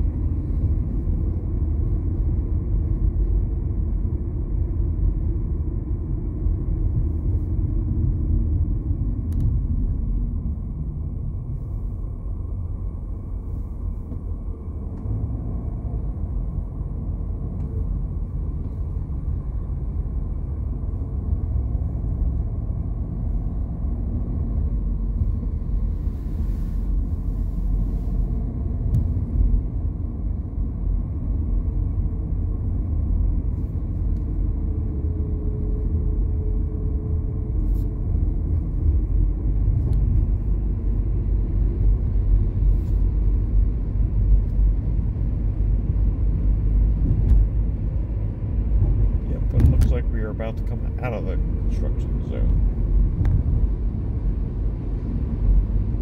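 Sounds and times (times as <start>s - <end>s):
car driving low rumble: 0.0s - 56.0s.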